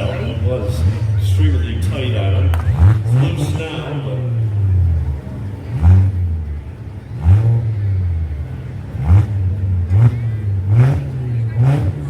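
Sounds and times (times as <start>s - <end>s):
car engines idling: 0.0s - 12.0s
engine throttle blips: 0.0s - 12.0s.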